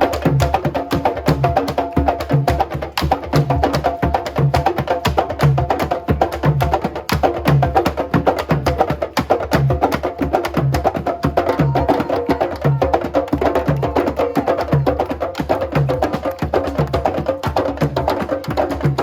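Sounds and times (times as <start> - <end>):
percussion-heavy music: 0.0 - 19.0.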